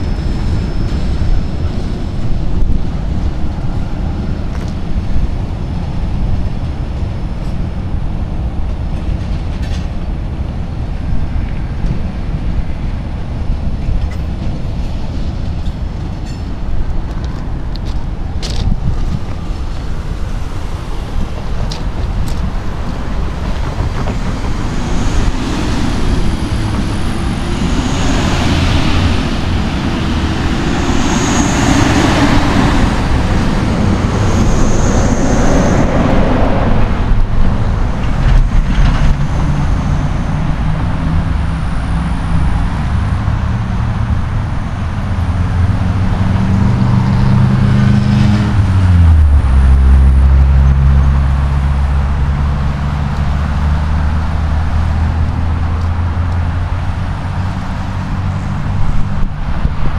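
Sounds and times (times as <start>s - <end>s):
road traffic passing: 0.0s - 59.9s
tractor-trailer going by: 0.0s - 59.9s.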